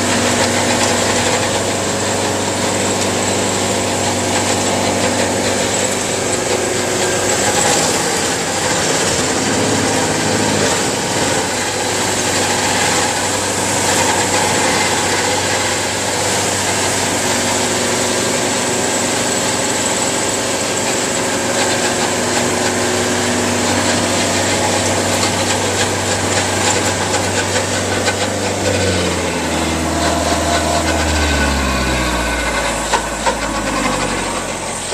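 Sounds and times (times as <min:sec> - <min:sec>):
tree removal machine engine: 0:00.0 - 0:34.9.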